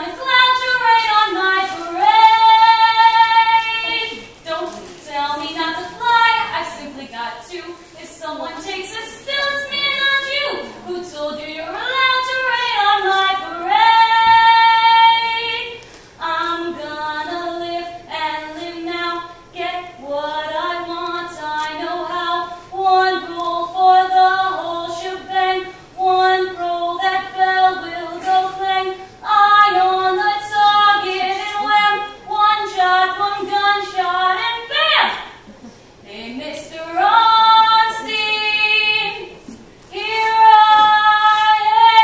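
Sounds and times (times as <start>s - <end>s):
woman singing unaccompanied: 0.0s - 35.4s, 36.0s - 42.0s.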